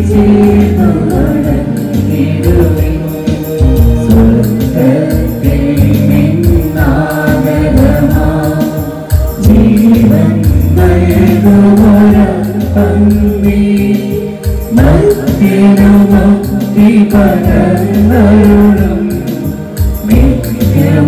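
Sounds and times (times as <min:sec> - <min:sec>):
hymn singing with accompaniment: 0:00.0 - 0:21.0.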